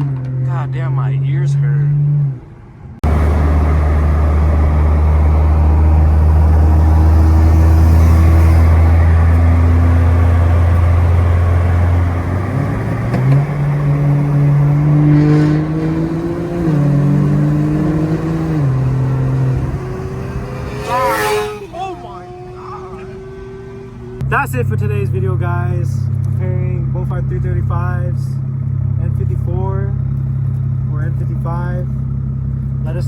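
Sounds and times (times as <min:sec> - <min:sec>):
loud car engine and exhaust: 0:00.0 - 0:33.0.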